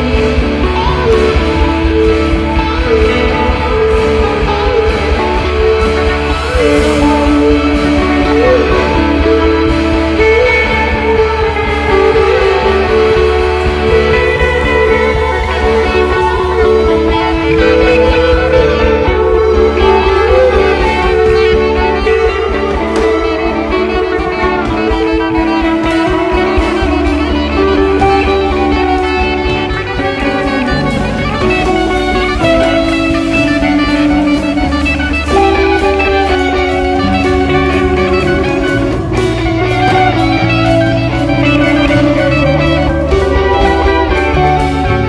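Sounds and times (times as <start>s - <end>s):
guitars holding sustained notes: 0.0s - 45.0s
steady low bass: 0.0s - 45.0s.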